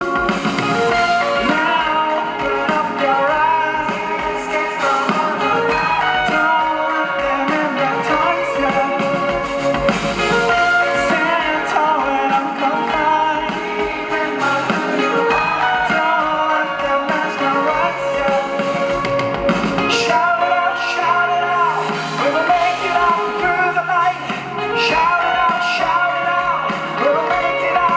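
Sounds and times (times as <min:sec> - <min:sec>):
guitar: 0:00.0 - 0:27.9
person singing: 0:00.0 - 0:27.9.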